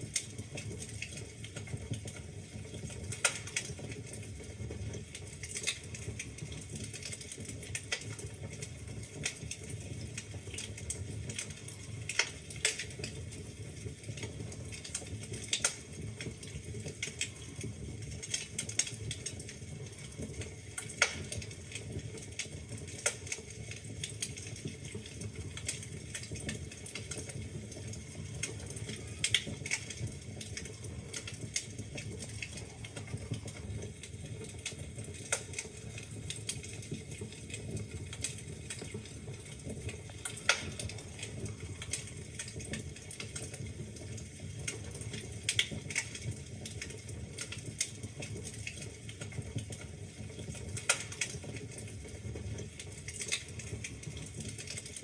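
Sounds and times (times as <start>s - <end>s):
burning logs popping and snapping: 0.0s - 55.0s
flames rumbling: 0.0s - 55.0s.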